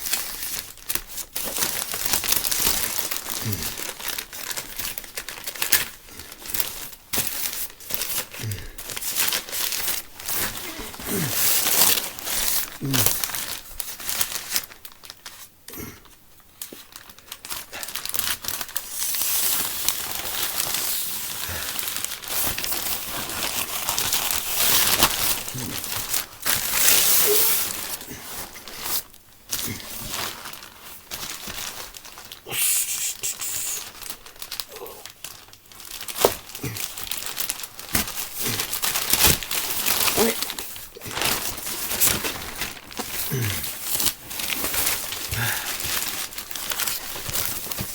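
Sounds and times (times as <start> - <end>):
packaging crinkling: 0.0 - 47.9.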